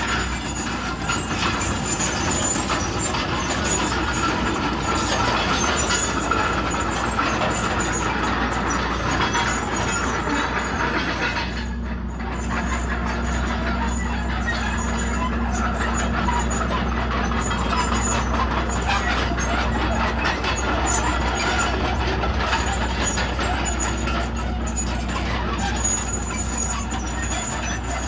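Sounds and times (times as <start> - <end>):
bulldozer diesel engine running: 0.0 - 28.0
steel tracks clattering: 0.0 - 28.0.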